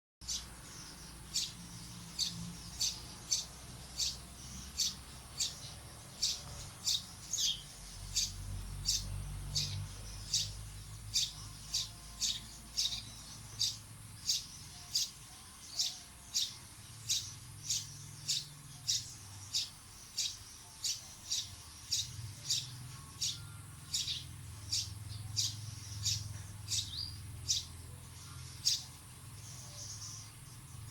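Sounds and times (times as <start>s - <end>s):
bird chirping high: 0.2s - 29.0s.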